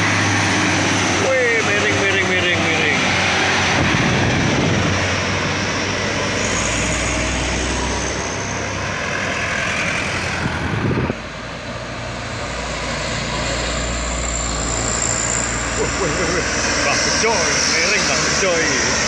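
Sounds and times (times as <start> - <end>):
diesel trucks running uphill: 0.0 - 19.0.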